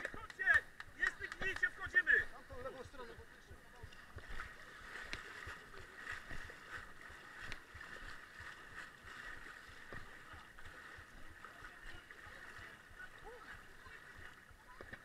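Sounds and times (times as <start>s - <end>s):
water sloshing around wading legs: 0.0s - 15.0s.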